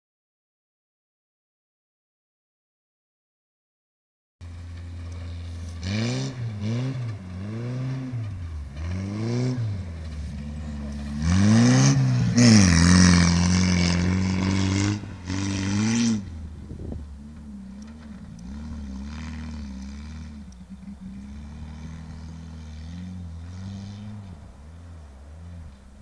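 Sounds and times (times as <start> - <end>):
rally car engine revving: 4.4 - 26.0
tyres on gravel: 4.4 - 26.0.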